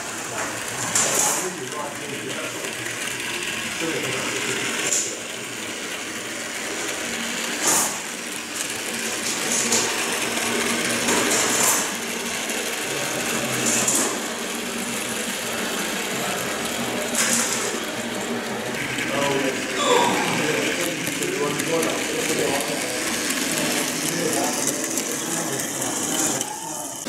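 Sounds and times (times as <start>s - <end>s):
model train motor whirring rattle: 0.1s - 27.0s.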